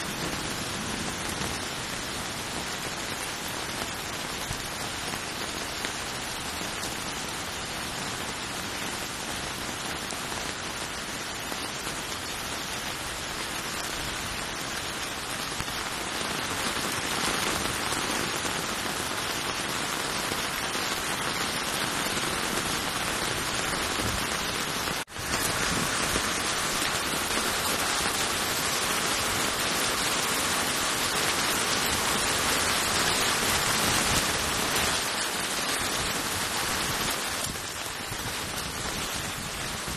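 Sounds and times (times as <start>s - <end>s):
heavy rain on flooded street: 0.0s - 39.9s.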